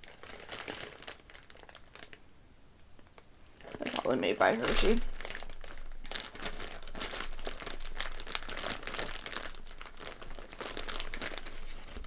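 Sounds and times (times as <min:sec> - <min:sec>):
plastic wrapper crinkling: 0:00.0 - 0:02.3, 0:03.0 - 0:12.0.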